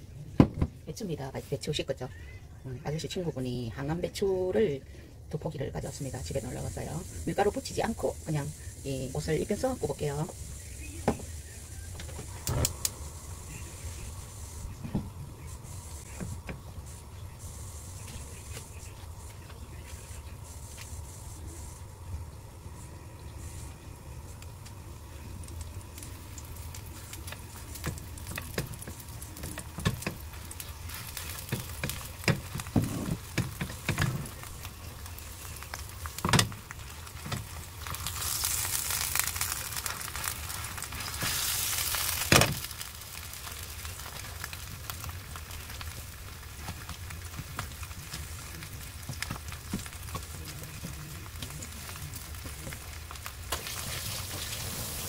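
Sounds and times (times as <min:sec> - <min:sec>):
battered leaves sizzling in oil: 0:00.9 - 0:55.0.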